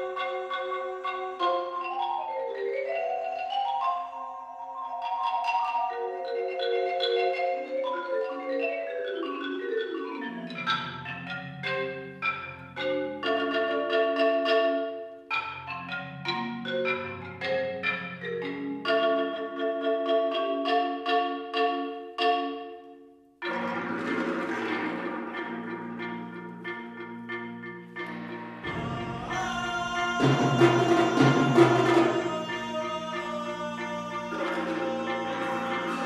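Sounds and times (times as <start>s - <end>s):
marimba played with mallets: 0.0s - 36.0s.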